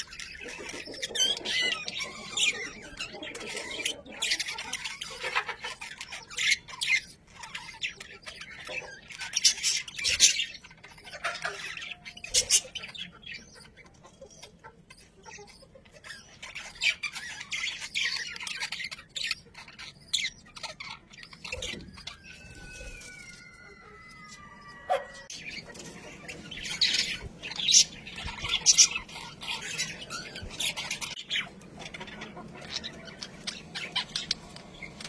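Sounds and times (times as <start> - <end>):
budgerigars chattering and squawking: 0.0 - 35.0.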